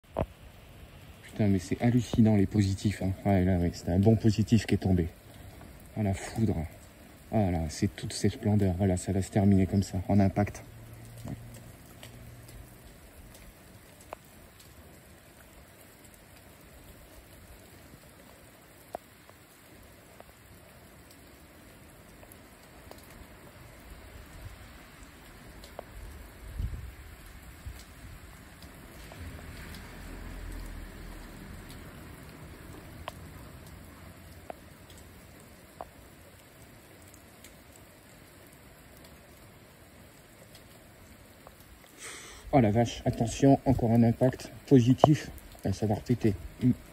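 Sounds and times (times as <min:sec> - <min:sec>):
rain falling: 0:00.0 - 0:46.9
sharp close drips: 0:00.0 - 0:46.9.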